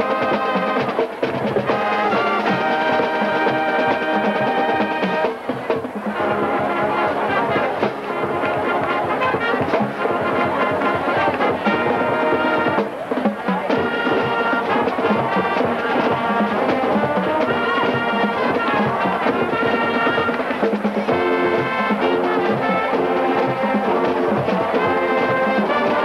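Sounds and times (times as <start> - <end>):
brass chords: 0.0 - 26.0
steady drum beat: 0.0 - 26.0.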